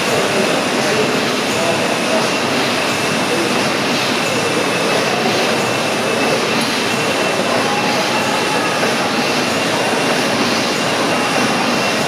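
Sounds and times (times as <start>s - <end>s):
steam engine running: 0.0s - 12.0s.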